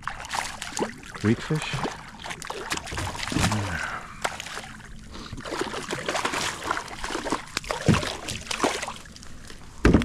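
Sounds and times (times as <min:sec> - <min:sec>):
fish splashing in water: 0:00.0 - 0:09.5.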